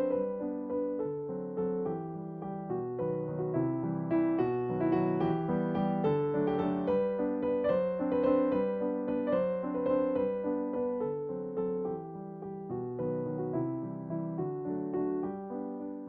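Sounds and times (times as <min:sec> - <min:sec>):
piano tune: 0:00.0 - 0:16.0.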